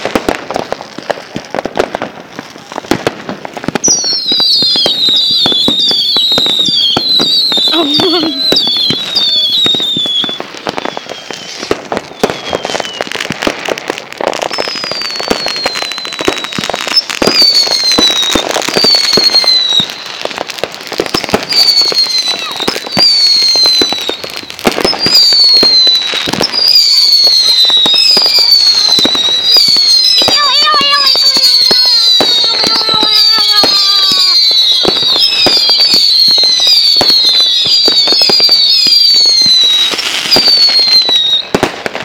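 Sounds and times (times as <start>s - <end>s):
falling firework whistles: 0.0s - 42.0s
fireworks crackling pops: 0.0s - 42.0s.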